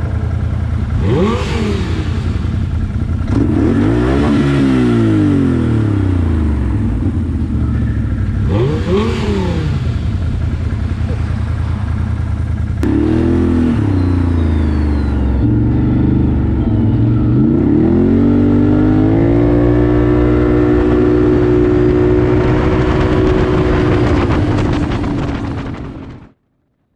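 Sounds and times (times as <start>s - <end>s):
atv engine revving and accelerating: 0.0s - 26.2s.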